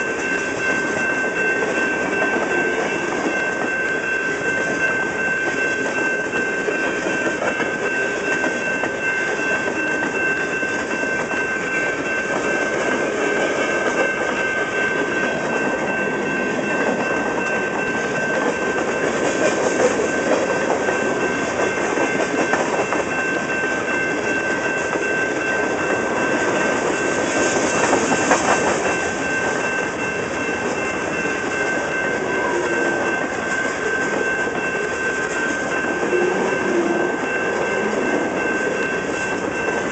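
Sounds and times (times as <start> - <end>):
freight cars rolling on rails: 0.0 - 39.9
steady high-pitched ring: 0.0 - 39.9.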